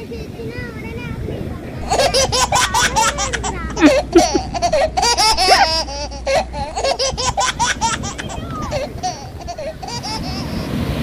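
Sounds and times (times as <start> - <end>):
young child laughing: 1.8 - 10.8.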